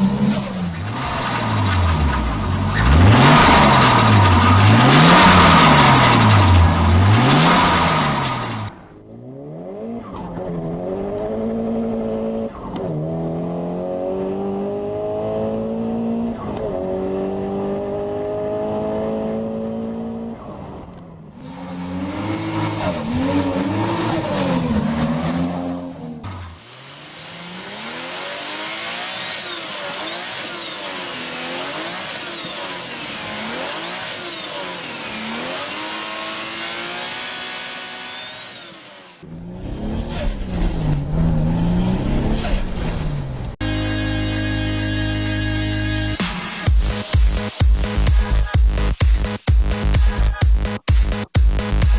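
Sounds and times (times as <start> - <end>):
engines revving: 0.0 - 20.3, 20.9 - 43.6
car engine accelerating: 0.0 - 43.6.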